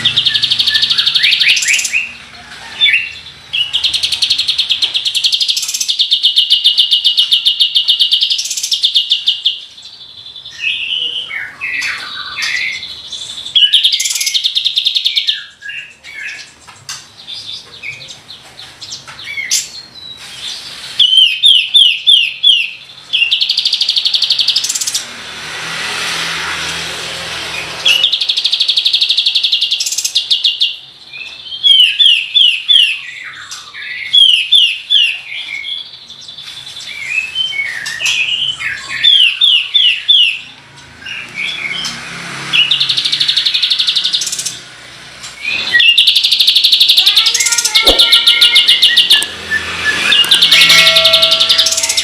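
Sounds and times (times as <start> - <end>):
songbird singing trills: 0.0 - 20.4, 27.9 - 42.0, 42.6 - 44.6, 45.4 - 52.0.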